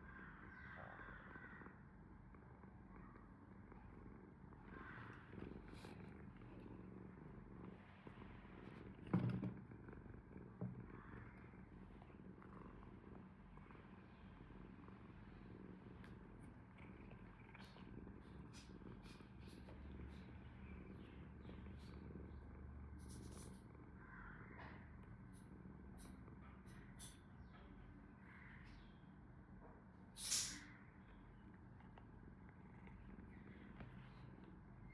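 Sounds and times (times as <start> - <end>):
cat purring: 0.1 - 34.9.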